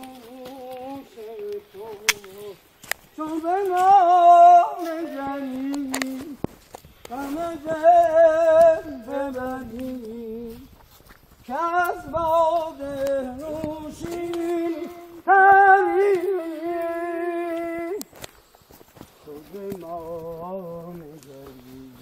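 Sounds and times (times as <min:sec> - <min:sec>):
person singing wordless melody: 0:00.0 - 0:10.7, 0:11.4 - 0:18.2, 0:19.2 - 0:22.0.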